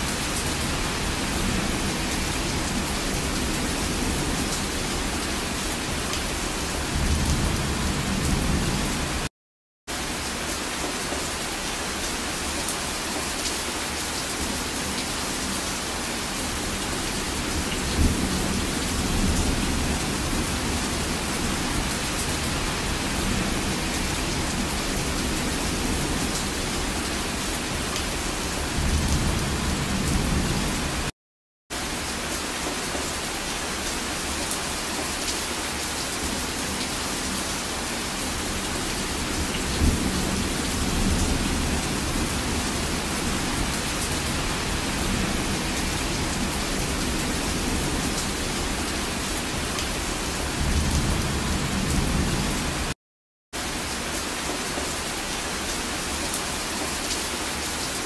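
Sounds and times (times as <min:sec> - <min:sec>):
steady rain falling: 0:00.0 - 0:09.3, 0:09.9 - 0:31.1, 0:31.7 - 0:53.0, 0:53.6 - 0:58.0.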